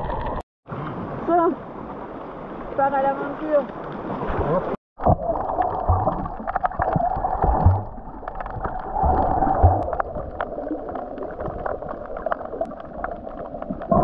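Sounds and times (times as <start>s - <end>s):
water gurgling and sloshing: 0.0s - 14.0s.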